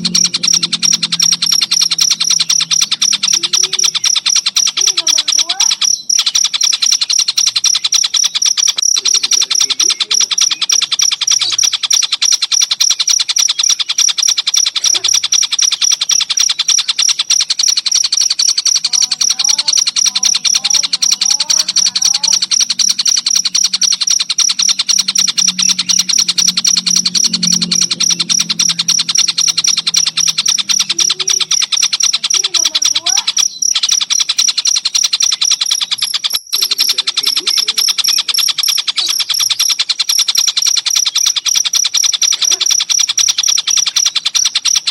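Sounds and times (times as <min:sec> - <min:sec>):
crickets chirping: 0:00.0 - 0:44.9
kingfisher whistling calls: 0:00.0 - 0:44.9
low warbling bird calls: 0:00.0 - 0:44.9.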